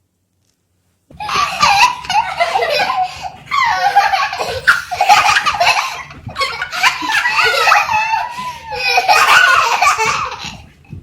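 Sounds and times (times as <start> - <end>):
baby laughing: 1.2 - 10.7.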